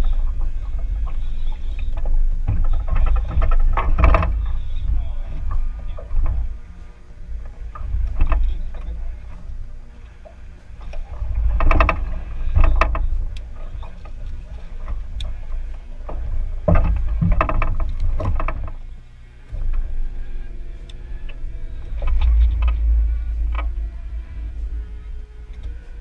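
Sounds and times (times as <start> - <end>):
knocking and rustling in boat: 0.0 - 26.0
wind rumbling on microphone: 0.0 - 26.0.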